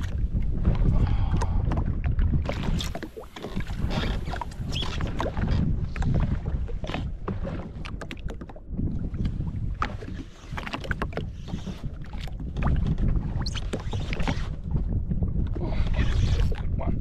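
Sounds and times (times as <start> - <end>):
small waves lapping against hull: 0.0 - 17.0
wind buffeting microphone: 0.0 - 17.0.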